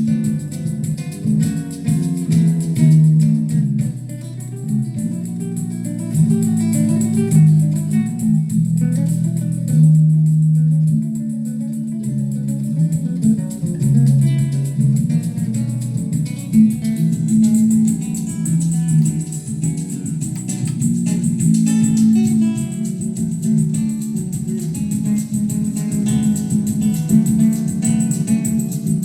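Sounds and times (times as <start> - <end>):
guitar music with strong bass: 0.0 - 29.0.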